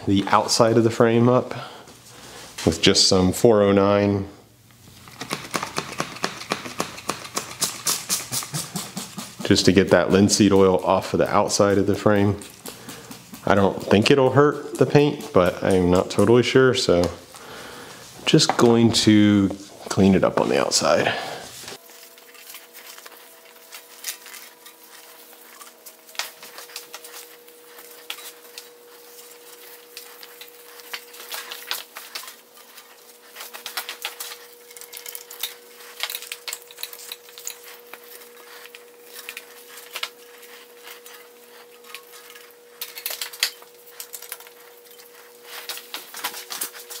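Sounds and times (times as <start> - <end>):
faint steady hum: 0.0 - 47.0
rag wiping bicycle frame: 5.0 - 47.0.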